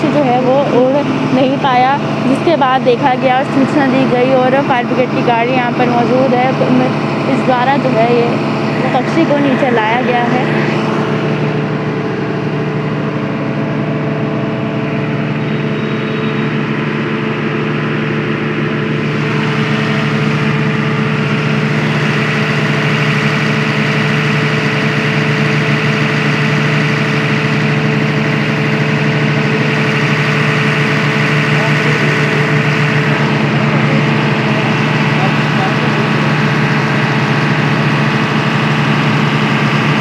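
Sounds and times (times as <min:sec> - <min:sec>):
fire truck engine idling: 0:00.0 - 0:40.0.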